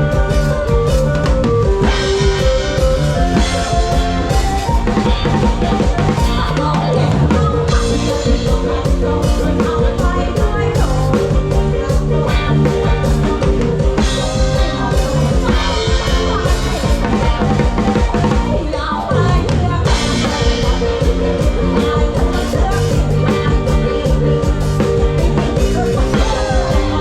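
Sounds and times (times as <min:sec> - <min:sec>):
drum kit steady beat: 0:00.0 - 0:27.0
live rock band playing: 0:00.0 - 0:27.0.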